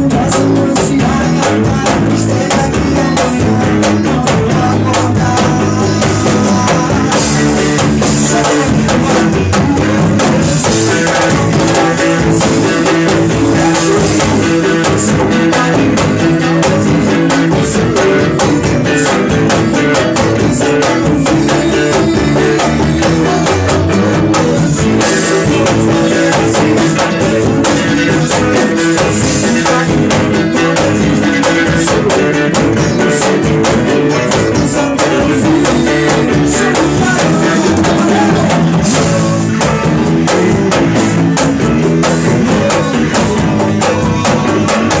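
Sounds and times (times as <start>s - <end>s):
band music: 0.0s - 45.0s
drum kit beat: 0.0s - 45.0s
guitar: 0.0s - 45.0s.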